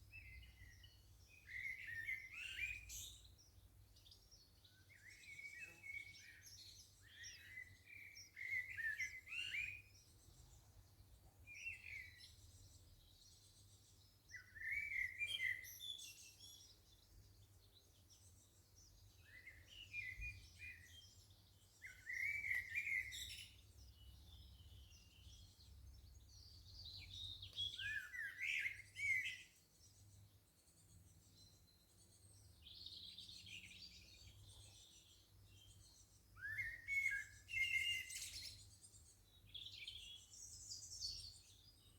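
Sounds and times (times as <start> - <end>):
songbirds twittering: 0.0 - 41.9.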